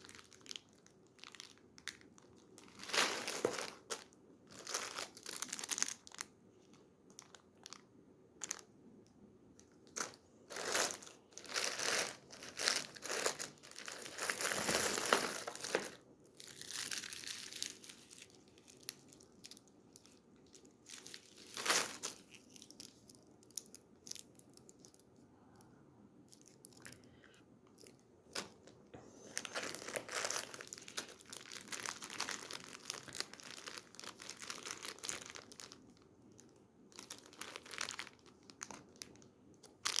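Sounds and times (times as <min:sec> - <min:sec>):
wrappers crinkling and tearing: 0:00.0 - 0:08.7, 0:09.6 - 0:25.0, 0:27.7 - 0:40.0.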